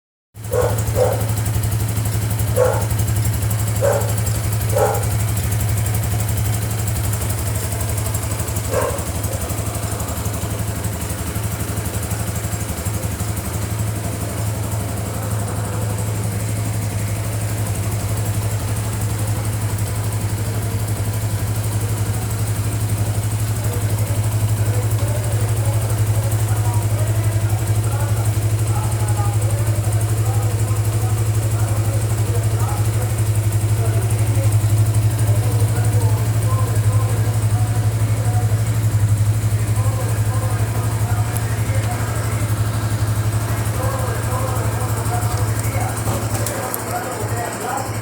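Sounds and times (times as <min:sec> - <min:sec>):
motorcycle engine idling: 0:00.4 - 0:48.0.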